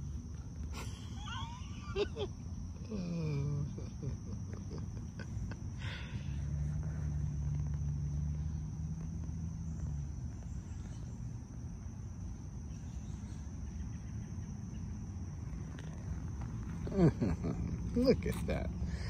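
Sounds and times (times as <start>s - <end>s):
insects droning high-pitched: 0.0s - 19.0s
low steady hum: 0.0s - 19.0s.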